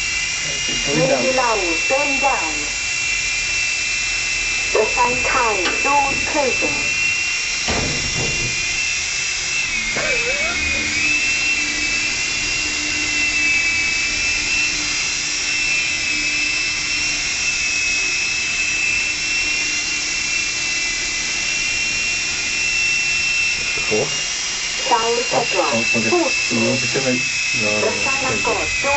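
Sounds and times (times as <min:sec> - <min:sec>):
micro helicopter rotor whine: 0:00.0 - 0:28.9.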